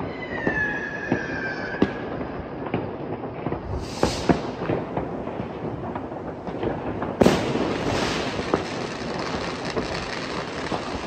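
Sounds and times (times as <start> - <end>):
firework hissing crackle: 0.0 - 11.0
fireworks bangs and pops: 0.0 - 11.0.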